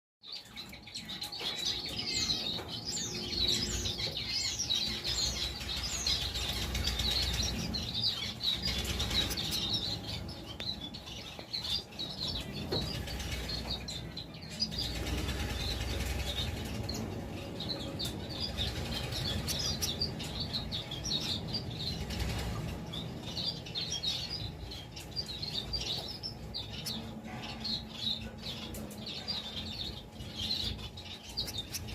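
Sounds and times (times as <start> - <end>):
finches twittering: 0.3 - 31.9.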